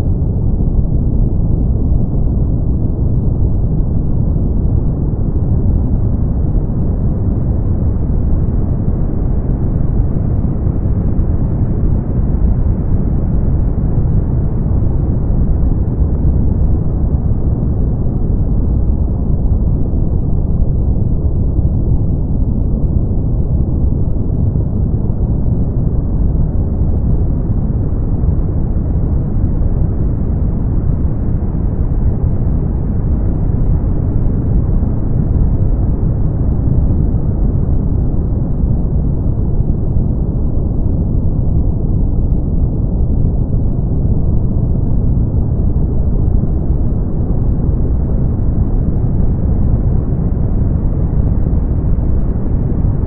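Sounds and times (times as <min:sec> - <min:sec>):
deep rushing brown noise: 0:00.0 - 0:53.0.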